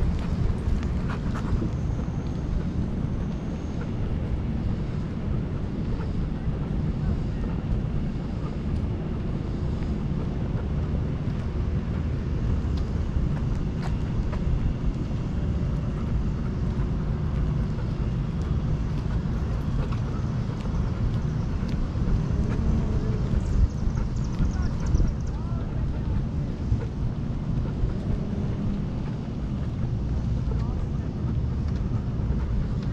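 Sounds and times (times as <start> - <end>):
low rumbling wind noise: 0.0 - 32.9.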